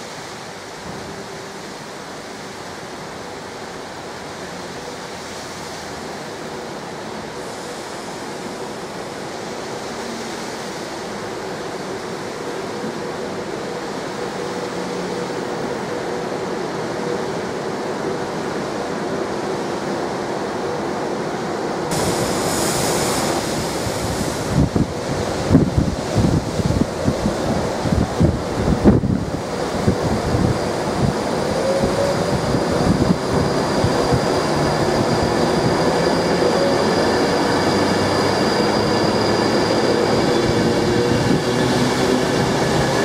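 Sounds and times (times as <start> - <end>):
high-pitched whine: 0.0 - 43.0
train running noise: 0.0 - 43.0.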